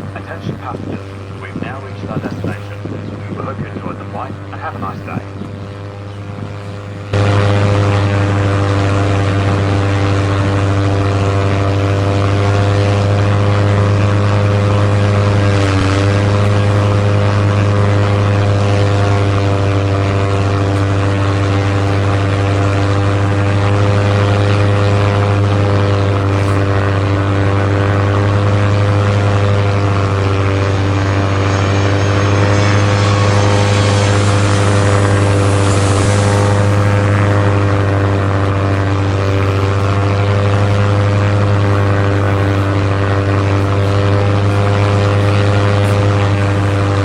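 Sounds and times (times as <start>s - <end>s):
toy aeroplane droning hum: 0.0s - 47.0s.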